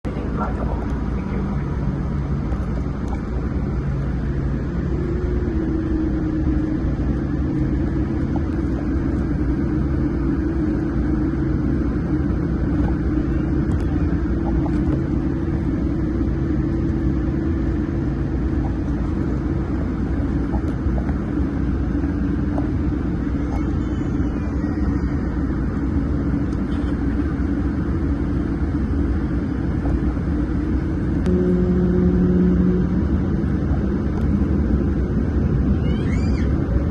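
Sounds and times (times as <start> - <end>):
airliner cabin rumble: 0.0 - 36.9
jet engine hum: 0.0 - 36.9.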